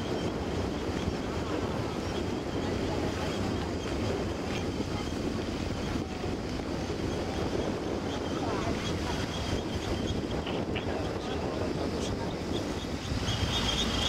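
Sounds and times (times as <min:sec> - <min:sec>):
boat motor rumble: 0:00.0 - 0:14.0
water washing along hull: 0:00.0 - 0:14.0
wind buffeting microphone: 0:00.0 - 0:14.0.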